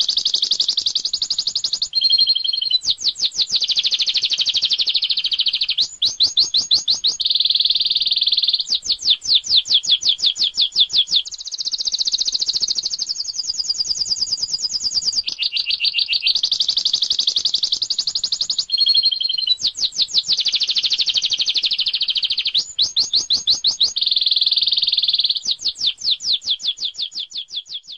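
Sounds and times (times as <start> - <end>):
canary singing: 0.0 - 27.9.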